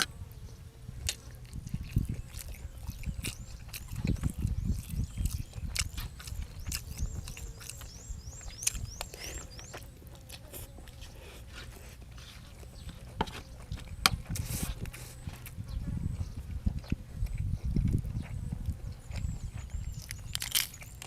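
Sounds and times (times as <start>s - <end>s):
person chewing food: 1.0s - 15.6s, 16.4s - 21.0s.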